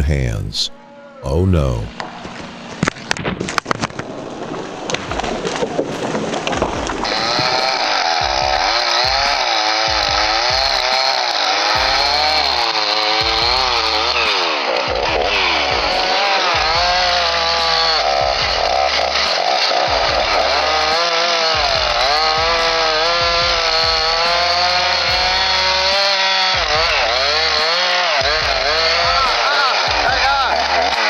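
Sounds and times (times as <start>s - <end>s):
sharp cracks and knocks: 2.0s - 31.0s
chainsaw running and cutting: 5.0s - 31.0s.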